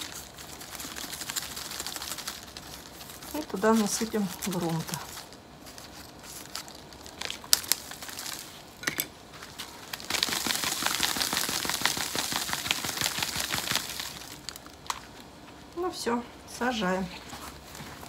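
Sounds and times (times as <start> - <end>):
soil crumbling and pattering: 0.0 - 15.2.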